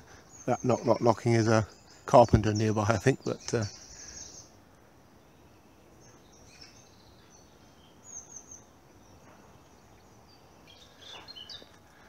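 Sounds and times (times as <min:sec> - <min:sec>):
low steady background hiss: 0:00.0 - 0:12.0
small birds chirping: 0:00.0 - 0:12.0.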